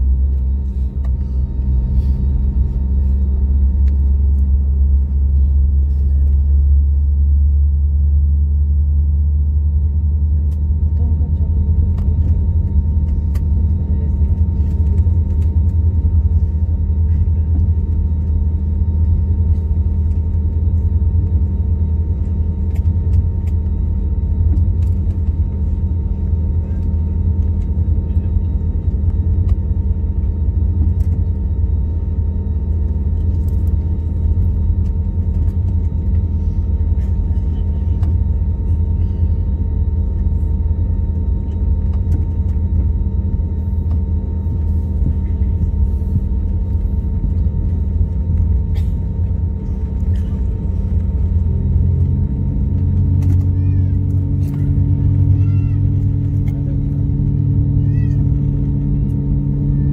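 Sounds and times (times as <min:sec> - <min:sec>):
jet engines and rolling gear rumble: 0:00.0 - 0:59.9
low hum: 0:00.0 - 0:59.9
steady cabin hums: 0:00.0 - 0:59.9.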